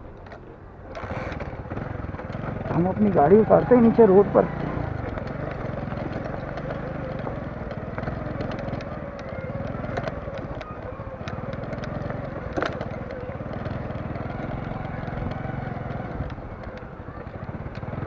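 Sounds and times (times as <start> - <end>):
motorcycle engine running: 0.5 - 18.0.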